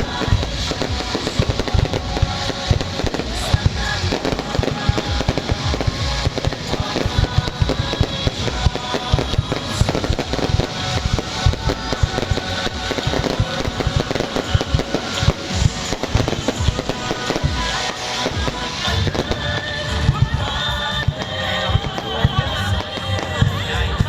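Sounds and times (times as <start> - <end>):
fireworks bangs and crackles: 0.0 - 24.0
music: 0.0 - 24.0.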